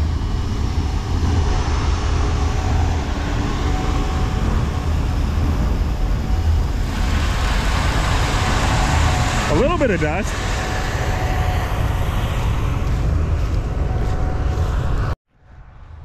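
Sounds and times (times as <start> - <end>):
combine harvester running: 0.0 - 15.2.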